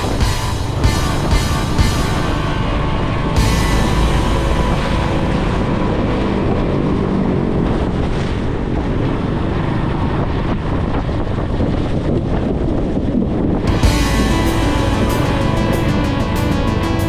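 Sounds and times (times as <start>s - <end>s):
storm wind on microphone: 0.0s - 17.0s.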